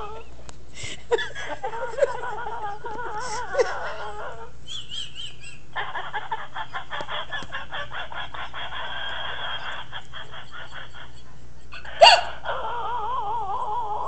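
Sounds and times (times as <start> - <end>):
woman wheezing cackling laugh: 0.8 - 12.1.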